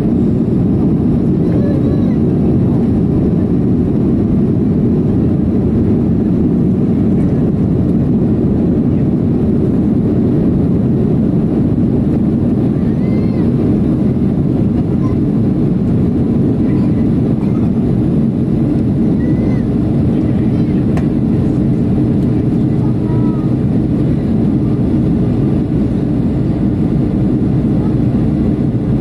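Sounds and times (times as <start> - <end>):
jet engines rumbling in cabin: 0.0 - 29.0.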